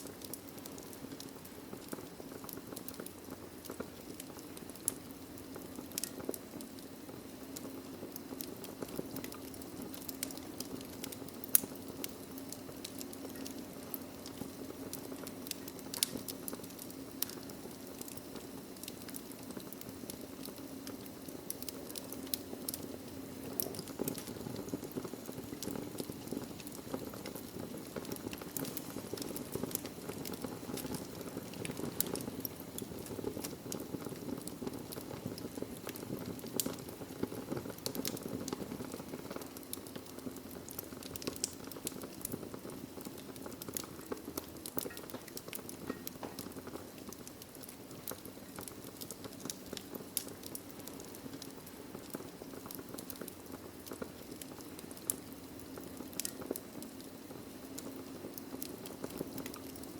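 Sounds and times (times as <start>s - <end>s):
logs crackling and popping: 0.0s - 59.9s
low rush of flames: 0.0s - 59.9s.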